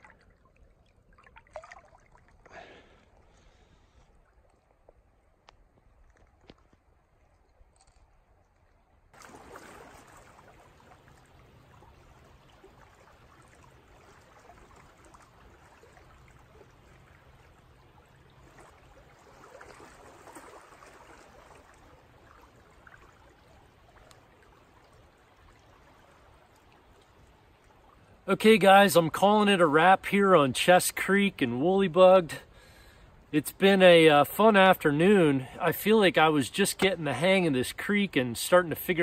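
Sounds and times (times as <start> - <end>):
creek water flowing: 0.0 - 39.0.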